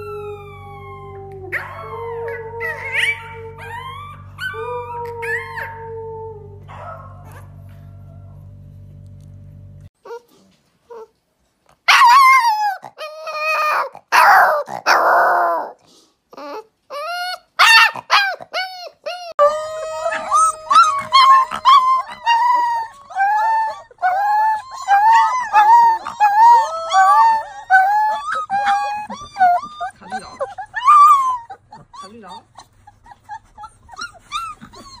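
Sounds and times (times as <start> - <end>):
puppies howling and yipping: 0.0 - 8.4, 11.9 - 15.8, 16.4 - 35.0.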